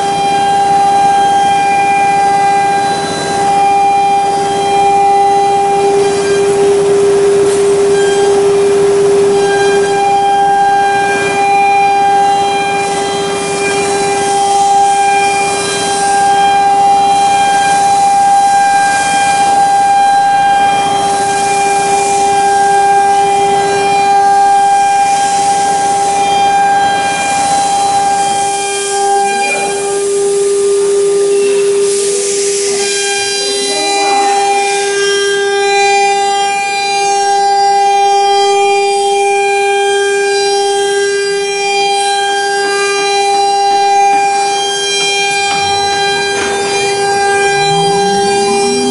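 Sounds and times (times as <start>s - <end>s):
router spindle whine: 0.0s - 48.9s.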